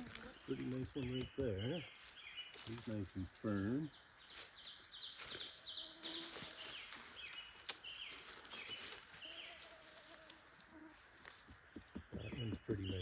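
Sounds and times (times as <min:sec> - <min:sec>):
small songbird singing: 0:00.0 - 0:09.8, 0:11.8 - 0:13.0.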